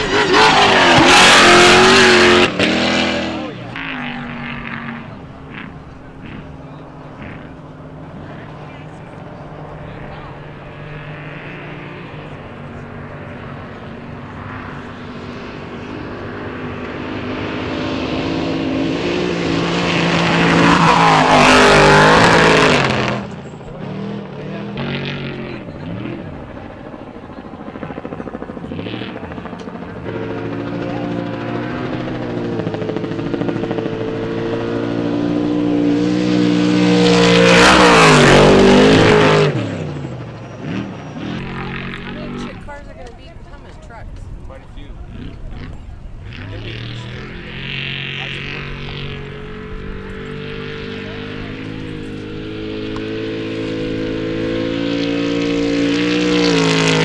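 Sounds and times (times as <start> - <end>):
race trucks speeding past: 0.0 - 57.0.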